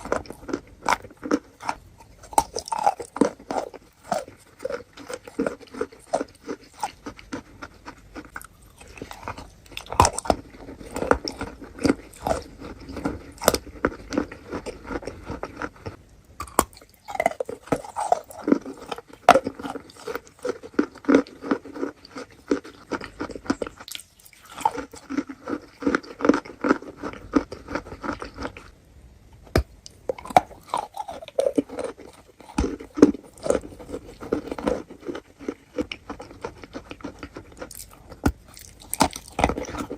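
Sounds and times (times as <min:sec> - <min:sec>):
chewing and crunching: 0:00.0 - 0:28.8, 0:29.5 - 0:39.9.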